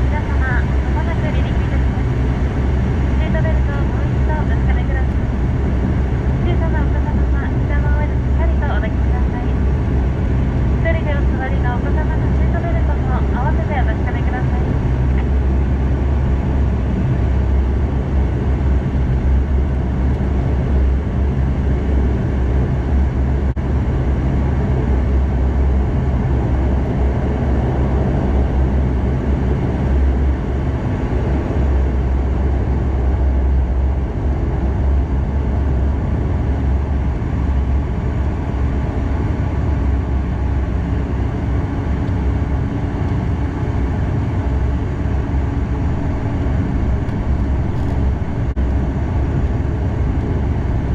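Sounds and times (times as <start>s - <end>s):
aircraft cabin noise: 0.0s - 50.9s
turboprop engines droning: 0.0s - 50.9s.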